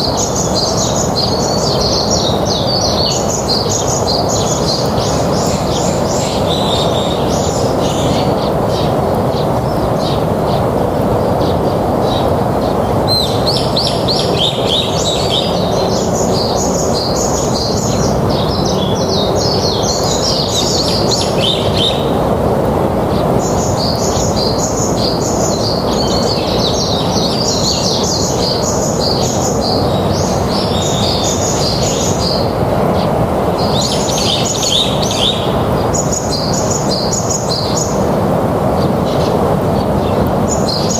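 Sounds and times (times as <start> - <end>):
small birds chirping: 0.0 - 40.9
steady background hiss: 0.0 - 40.9.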